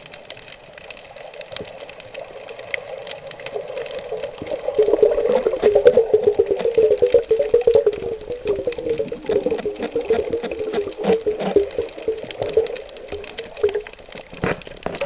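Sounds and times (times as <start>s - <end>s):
underwater crackle of clicks: 0.0s - 15.0s.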